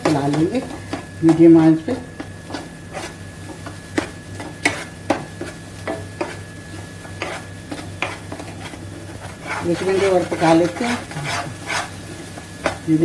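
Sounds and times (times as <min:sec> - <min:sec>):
spatula scraping thick mixture in pan: 0:00.0 - 0:12.9.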